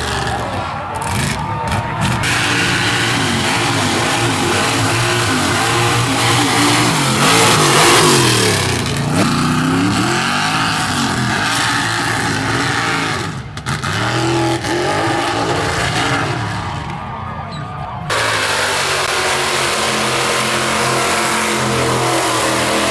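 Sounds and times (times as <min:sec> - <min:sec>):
truck engine revving hard: 0:00.0 - 0:17.3, 0:17.9 - 0:22.9.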